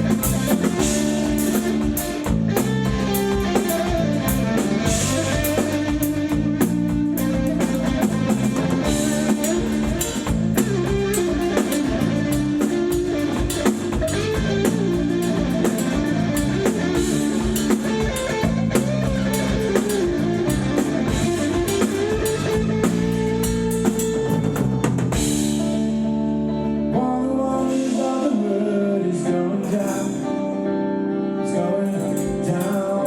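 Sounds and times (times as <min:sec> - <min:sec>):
rock band playing: 0:00.0 - 0:33.0
sustained guitar chords: 0:00.0 - 0:33.0.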